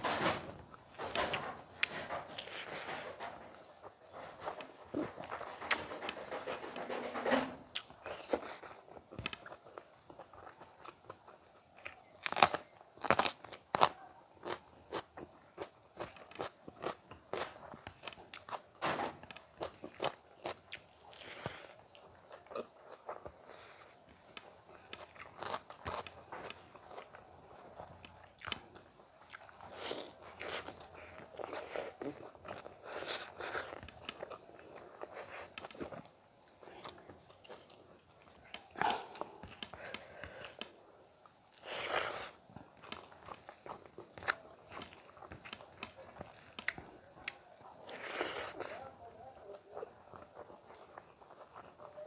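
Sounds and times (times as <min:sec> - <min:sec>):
person chewing with crunches: 0:00.9 - 0:06.9, 0:07.7 - 0:52.0.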